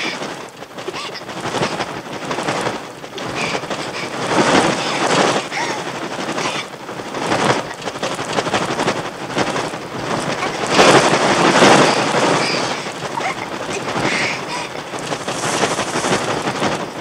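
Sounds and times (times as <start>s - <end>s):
bird wings fluttering: 0.0s - 17.0s.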